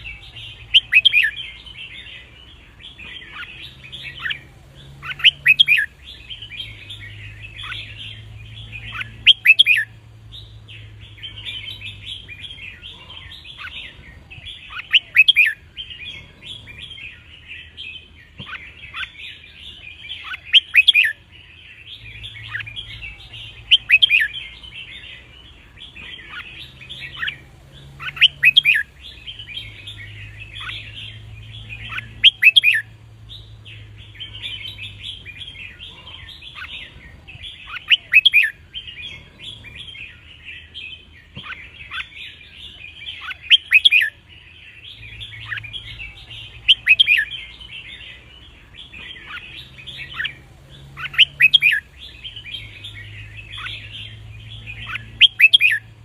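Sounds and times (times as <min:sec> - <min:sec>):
bird singing clear phrase: 0:00.0 - 0:56.0
soft bird chattering: 0:00.0 - 0:56.0.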